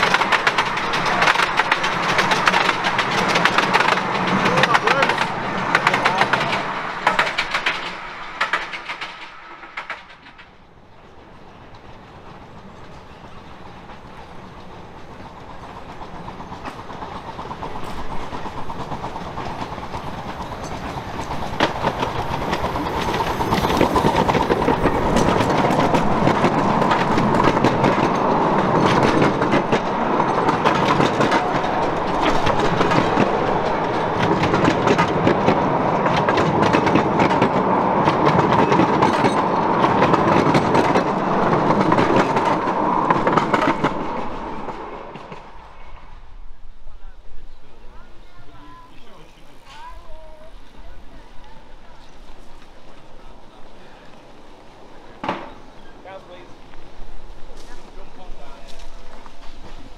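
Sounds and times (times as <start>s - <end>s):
train wheels clicking over rail joints: 0.0s - 46.2s, 48.8s - 59.9s.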